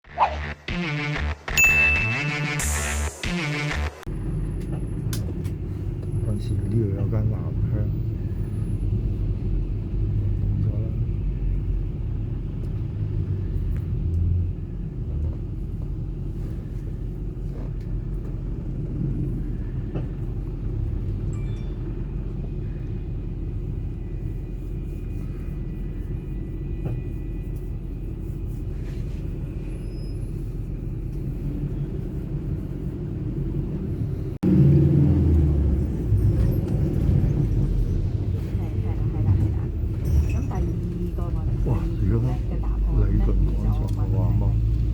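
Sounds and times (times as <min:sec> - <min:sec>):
car engine and tyres rumbling: 0:04.0 - 0:44.9.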